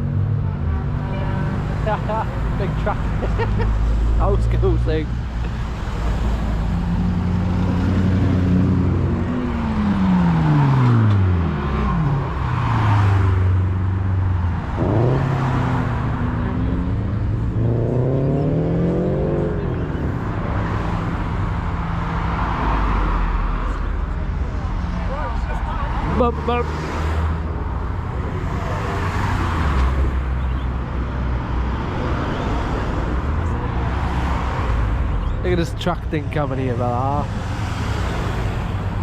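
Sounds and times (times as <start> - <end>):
vehicle engines driving past: 0.0 - 39.0.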